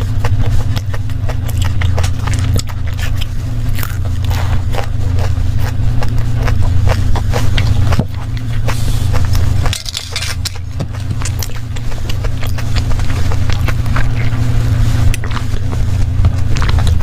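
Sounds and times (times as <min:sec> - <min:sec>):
crunchy chewing: 0:00.0 - 0:17.0
steady low hum: 0:00.0 - 0:17.0.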